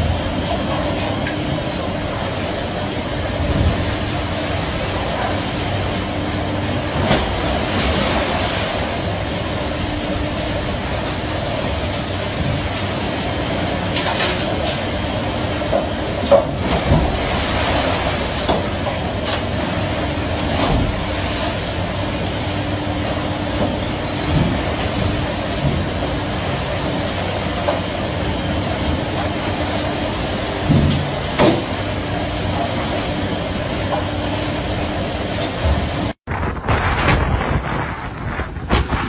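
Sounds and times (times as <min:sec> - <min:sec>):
boat engine and machinery drone: 0:00.0 - 0:39.0.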